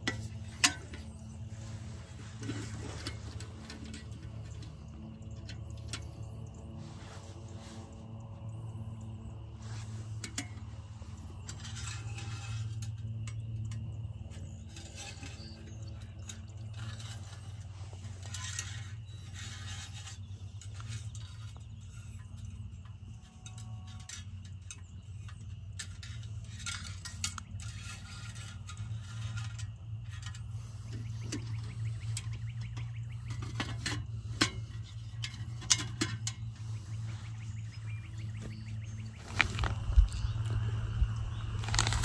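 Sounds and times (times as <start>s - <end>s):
objects clinking and scraping: 0.0s - 8.1s, 8.9s - 42.0s
steady low hum: 0.0s - 42.0s.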